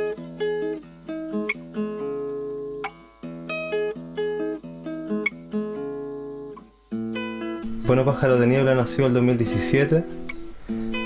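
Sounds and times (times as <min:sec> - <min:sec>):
fingerpicked nylon-string guitar: 0:00.0 - 0:11.0.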